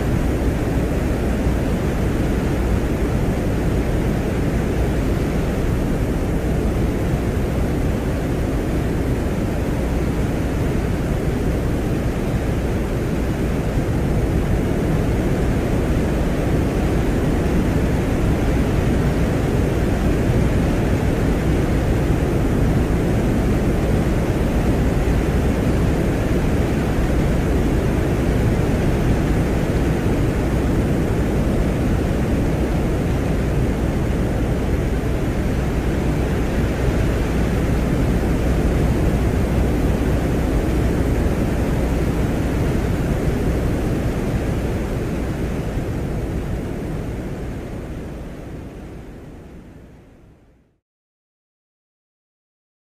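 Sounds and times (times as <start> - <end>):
deep hiss-like noise: 0.0 - 50.5.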